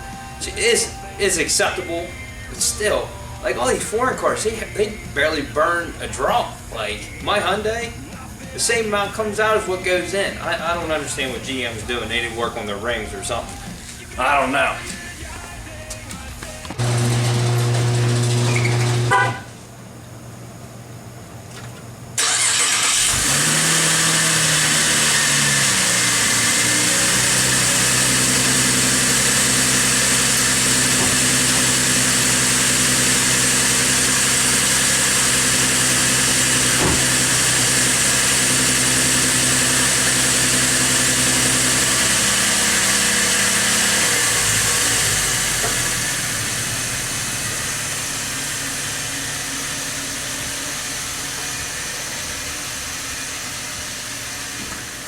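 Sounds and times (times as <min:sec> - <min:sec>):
car engine starting and idling: 0:00.0 - 0:55.0.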